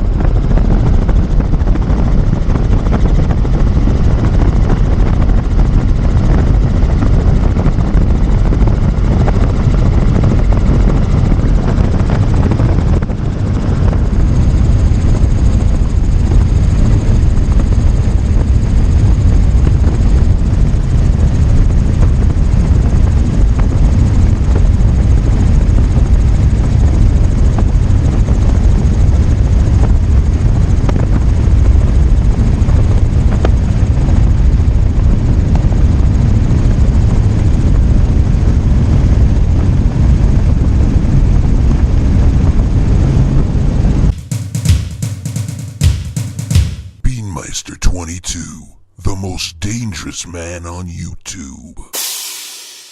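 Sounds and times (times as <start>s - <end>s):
helicopter rotor and engine: 0.0s - 44.1s.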